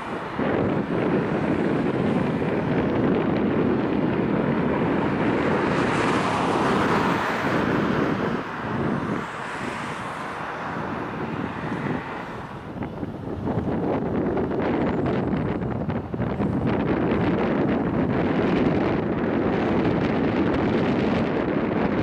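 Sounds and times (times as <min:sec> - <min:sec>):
jet engine roar at takeoff: 0:00.0 - 0:22.0.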